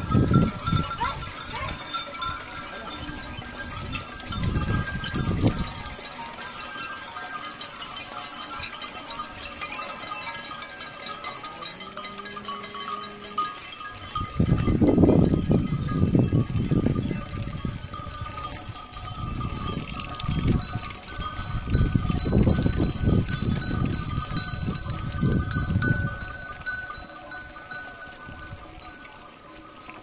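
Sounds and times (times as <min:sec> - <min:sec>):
cattle bells ringing: 0:00.0 - 0:30.0.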